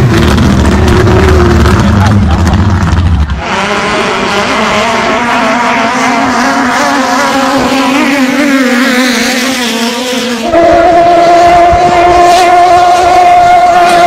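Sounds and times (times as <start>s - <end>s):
racing boat engines: 0.0s - 14.0s
single engine steady high note: 0.0s - 14.0s.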